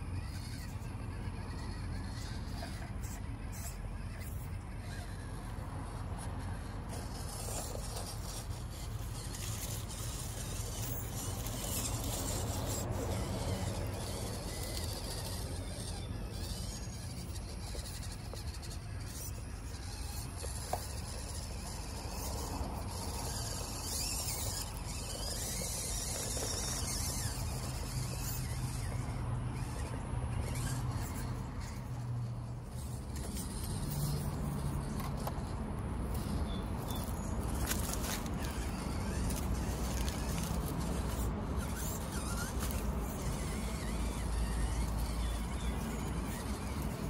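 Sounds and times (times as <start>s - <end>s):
electric motor and gears whirring: 0.0s - 47.0s
tires scraping and squealing: 0.0s - 47.0s.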